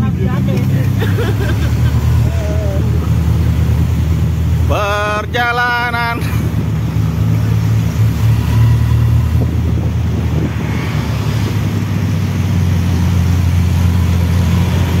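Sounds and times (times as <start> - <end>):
engine droning while driving: 0.0 - 15.0
wind and road noise: 0.0 - 15.0.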